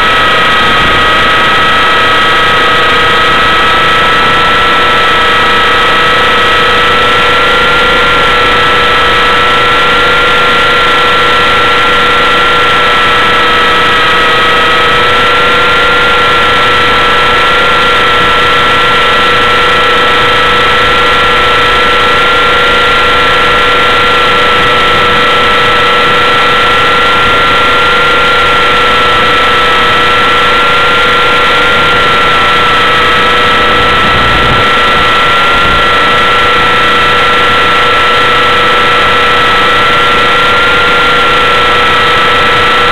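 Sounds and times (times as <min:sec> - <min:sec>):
model helicopter whine: 0:00.0 - 0:42.9.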